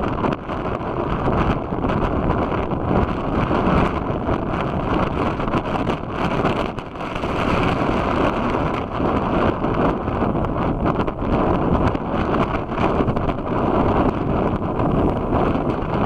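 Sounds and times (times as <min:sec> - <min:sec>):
heavy breaking surf: 0:00.0 - 0:16.0
wind buffeting microphone: 0:00.0 - 0:16.0.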